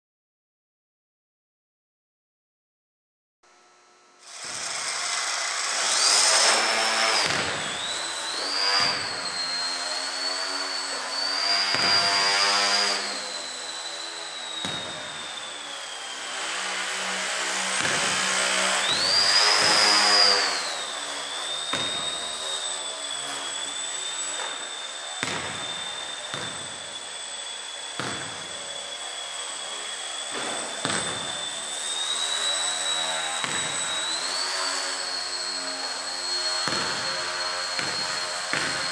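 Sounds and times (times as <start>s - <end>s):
small electric propeller whine: 3.5s - 38.9s.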